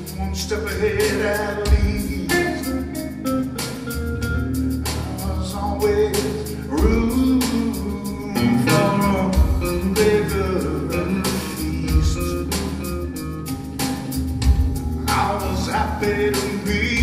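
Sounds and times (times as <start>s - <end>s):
live blues band: 0.0s - 17.0s
drum strikes: 1.0s - 5.3s, 6.2s - 7.8s, 8.4s - 10.4s, 11.2s - 17.0s.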